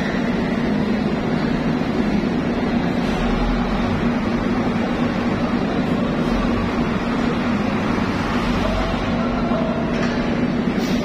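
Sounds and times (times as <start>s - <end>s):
diesel truck engine running: 0.0s - 11.0s
low mechanical hum: 0.0s - 11.0s.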